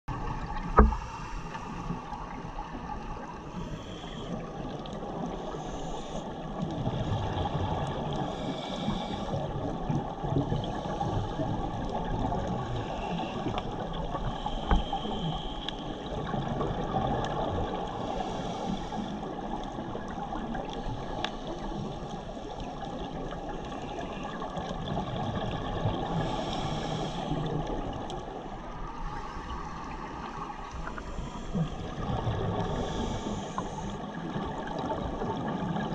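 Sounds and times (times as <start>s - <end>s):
muffled underwater water noise: 0.1s - 35.9s.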